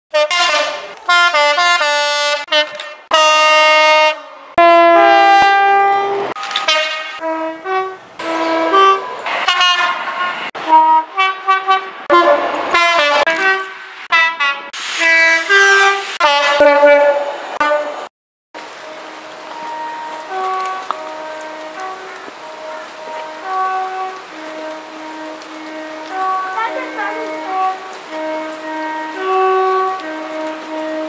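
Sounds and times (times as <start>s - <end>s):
locomotive horn two-note blasts: 0.1s - 31.0s.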